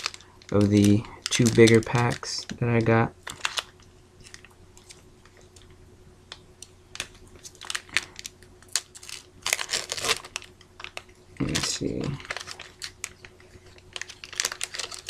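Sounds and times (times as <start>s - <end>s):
foil wrapper crinkling: 0.0s - 5.8s, 6.9s - 15.0s.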